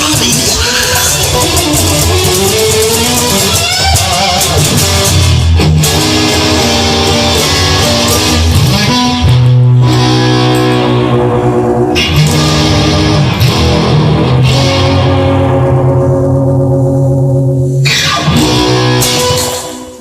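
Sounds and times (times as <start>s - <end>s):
bass line: 0.0s - 20.0s
rock guitar: 0.0s - 20.0s.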